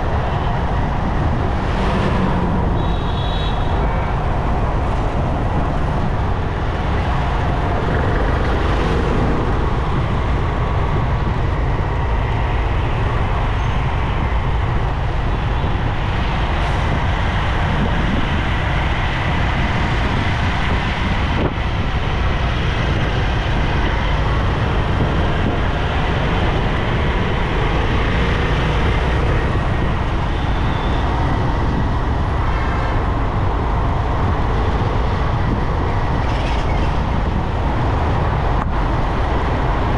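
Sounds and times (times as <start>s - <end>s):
motorcycle road noise: 0.0s - 39.9s.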